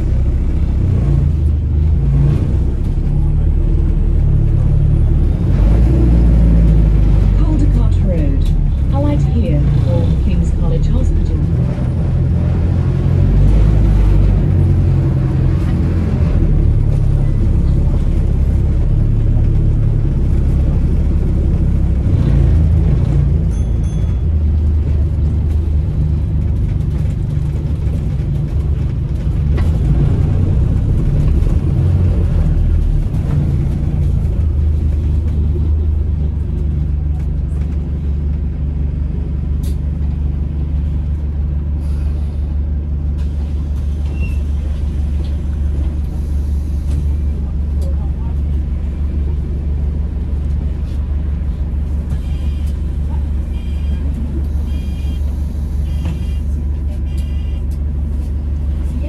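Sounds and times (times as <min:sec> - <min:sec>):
bus drivetrain drone: 0:00.0 - 0:59.0
road rumble: 0:00.0 - 0:59.0.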